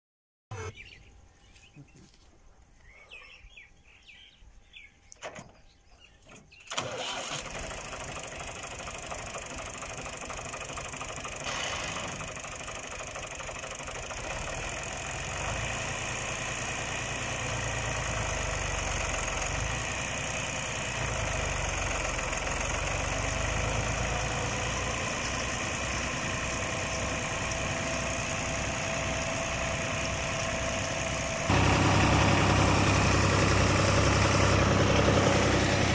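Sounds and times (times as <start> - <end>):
tractor diesel engine starting and idling: 0.5 - 1.0, 6.2 - 35.9.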